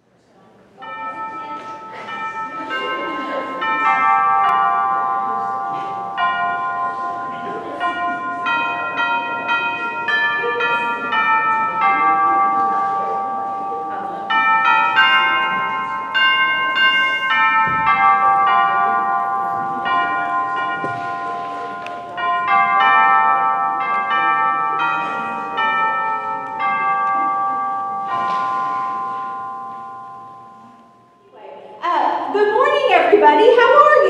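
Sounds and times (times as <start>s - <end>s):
bells ringing a tune: 0.8s - 34.0s.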